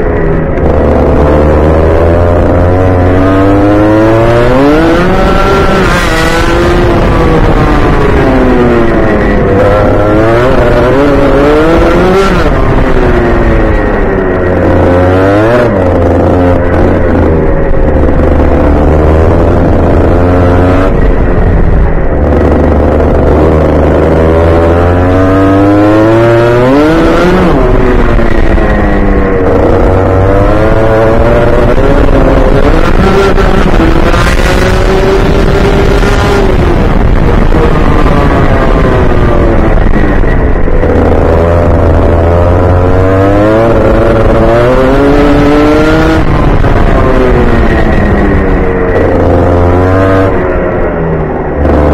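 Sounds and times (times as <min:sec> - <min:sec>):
kart engine racing: 0:00.0 - 0:51.9.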